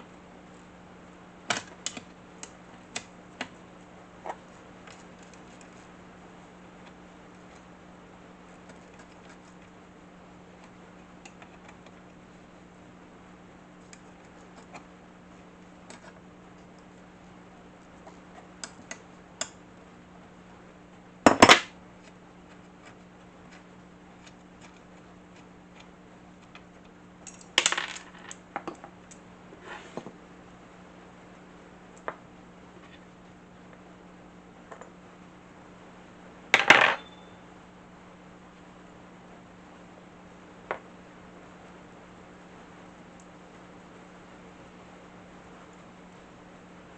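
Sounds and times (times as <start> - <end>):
faint steady hum: 0.0 - 46.9.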